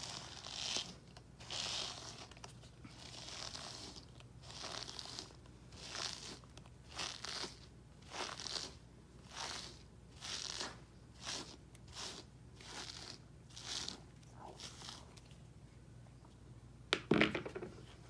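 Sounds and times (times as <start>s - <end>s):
brush raking through fur: 0.0s - 15.3s.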